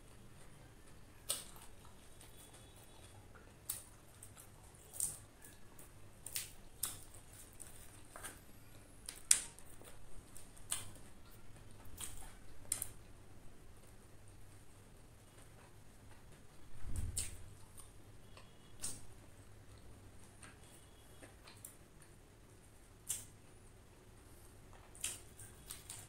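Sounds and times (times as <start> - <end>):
chewing crispy fried chicken: 0.0 - 26.0.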